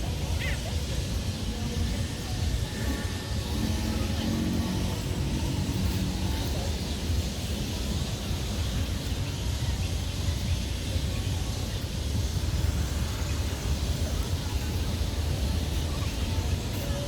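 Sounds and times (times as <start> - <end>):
vehicle rumble with hiss: 0.0 - 17.0.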